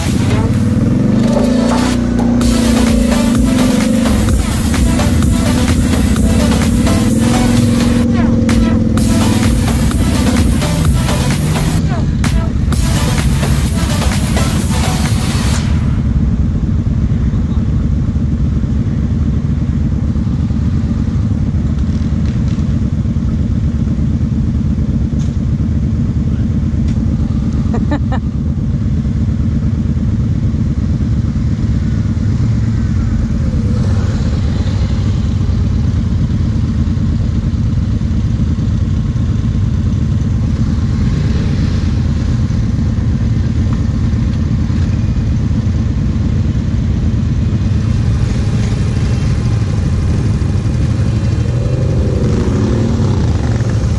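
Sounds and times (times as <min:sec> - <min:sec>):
quad bike engine running: 0:00.0 - 0:53.9.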